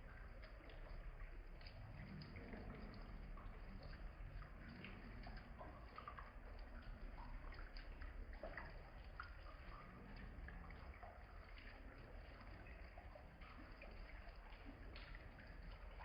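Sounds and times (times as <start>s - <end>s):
slowed rain drips and plinks: 0.0s - 16.0s.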